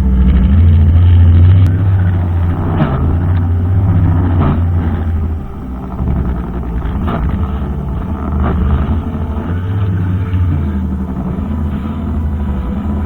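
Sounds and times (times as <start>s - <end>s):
brushcutter engine running: 0.0s - 13.0s.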